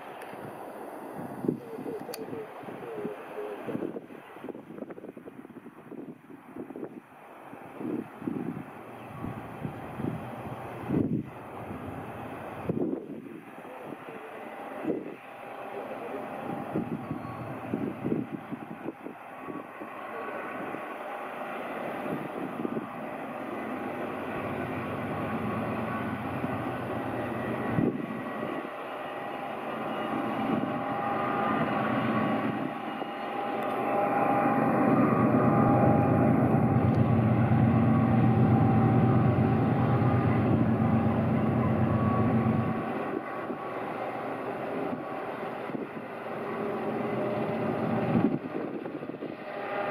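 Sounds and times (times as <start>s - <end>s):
diesel locomotive engines droning: 0.0s - 49.9s
faint whining tones: 8.6s - 49.9s.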